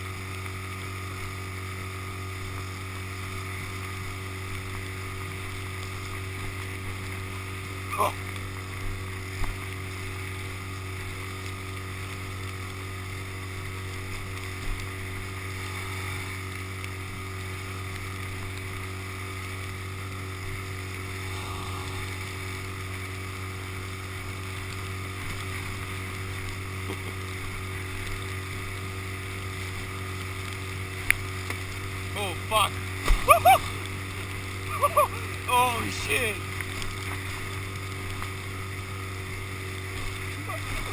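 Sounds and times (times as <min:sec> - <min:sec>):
outboard motor drone: 0:00.0 - 0:40.9
wind and water noise: 0:00.0 - 0:40.9.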